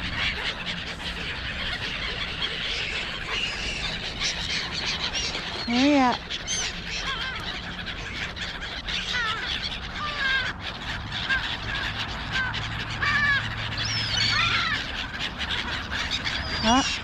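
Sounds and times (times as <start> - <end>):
gulls harsh calls: 0.0 - 17.0.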